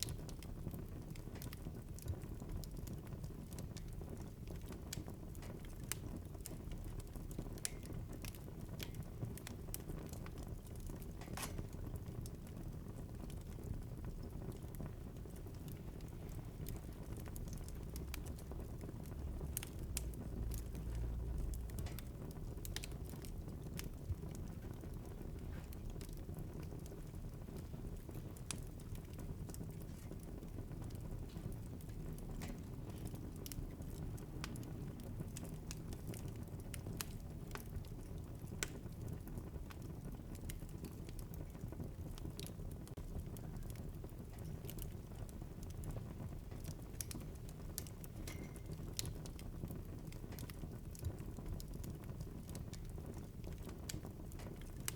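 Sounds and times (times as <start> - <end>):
fire rumbling: 0.0 - 54.9
logs crackling and popping: 0.0 - 54.9.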